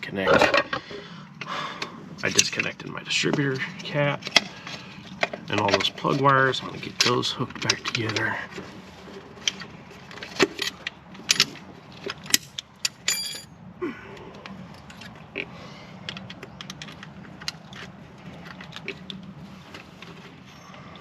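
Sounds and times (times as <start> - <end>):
quiet rattling and fiddling: 2.2 - 13.5, 14.4 - 21.0.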